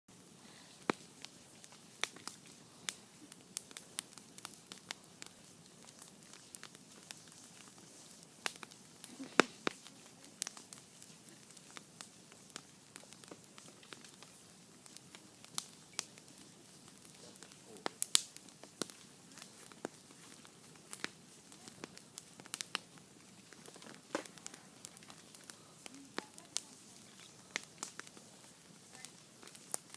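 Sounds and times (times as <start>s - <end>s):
campfire crackling: 0.1s - 29.9s
faint steady hiss: 0.1s - 29.9s.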